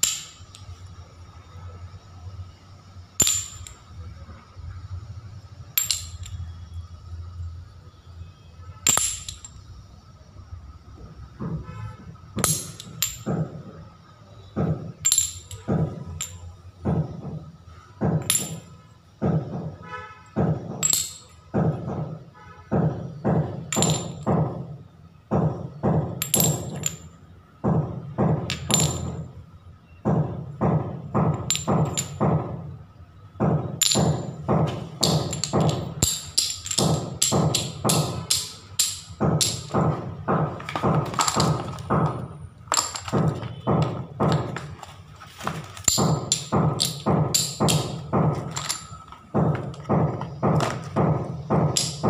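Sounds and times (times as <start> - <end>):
jingling tambourine percussion: 0.0 - 4.2, 5.6 - 7.1, 8.2 - 29.4, 30.1 - 32.6, 33.4 - 44.7, 45.8 - 52.0
background music with steady beat: 0.0 - 52.0.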